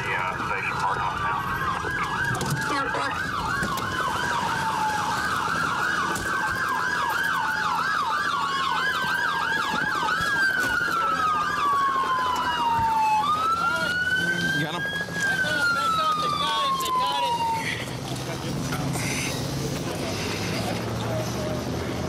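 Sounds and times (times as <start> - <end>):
fast yelping siren: 0.0 - 17.9
wailing siren: 0.0 - 20.0
road noise: 0.0 - 22.0.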